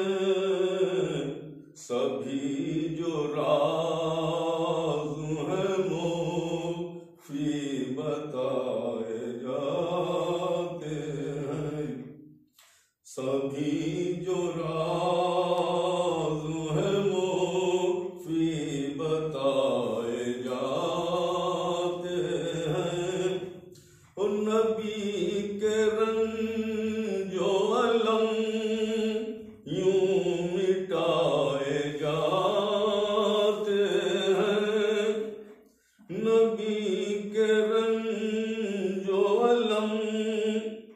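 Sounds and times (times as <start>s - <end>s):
man chanting unaccompanied: 0.0s - 12.0s, 13.1s - 35.4s, 36.0s - 40.9s.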